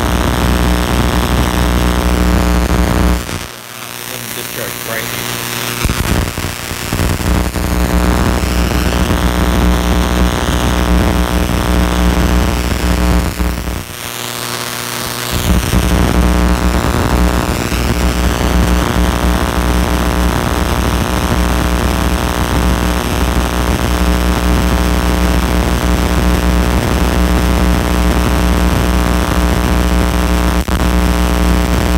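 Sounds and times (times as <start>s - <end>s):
loud electrical hum with hiss: 0.0s - 31.9s.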